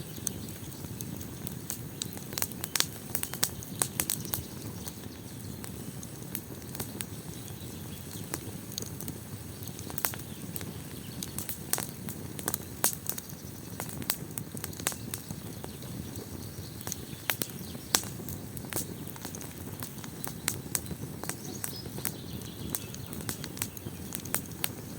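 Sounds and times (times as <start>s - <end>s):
fire crackling in a fireplace: 0.0s - 24.9s.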